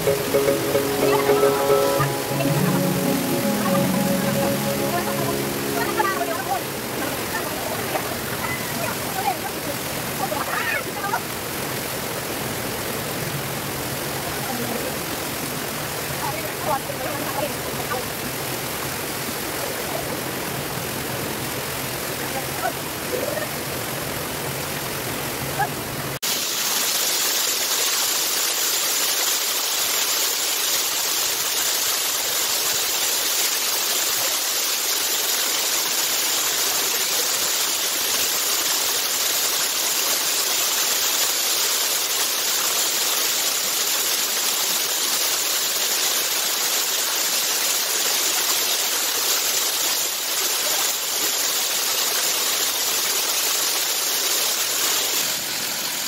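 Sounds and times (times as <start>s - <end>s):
waterfall rushing over boulders: 0.0s - 56.0s.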